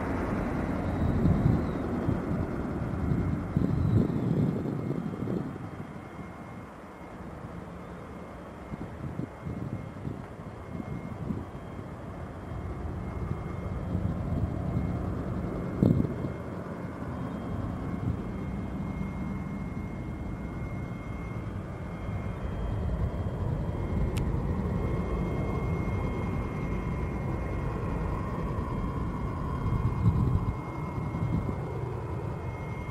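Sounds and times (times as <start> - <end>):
distant jet airliner rumble: 0.0 - 32.9.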